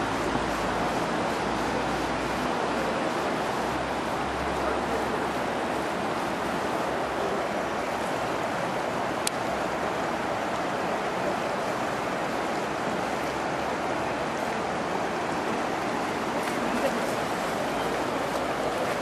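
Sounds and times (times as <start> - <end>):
floodwater rushing over pavement: 0.0 - 19.0.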